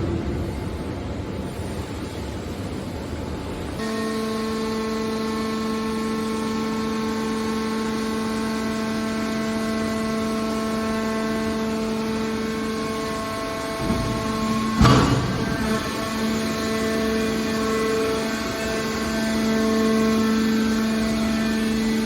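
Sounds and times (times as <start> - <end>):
hydraulic pump whining: 3.8 - 22.0.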